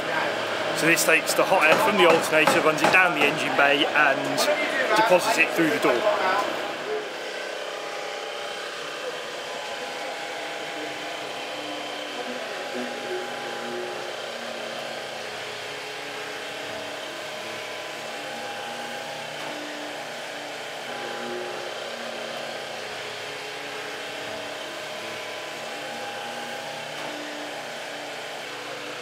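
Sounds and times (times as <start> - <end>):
fan-like whirring: 0.0 - 29.0.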